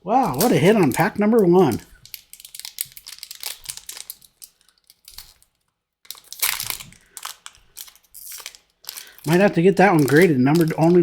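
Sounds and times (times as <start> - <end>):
wrapper crinkling and tearing: 0.2 - 11.0.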